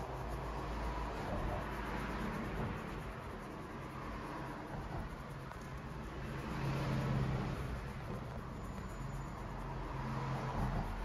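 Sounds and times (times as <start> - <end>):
brush scratching leather boot: 0.0 - 11.0.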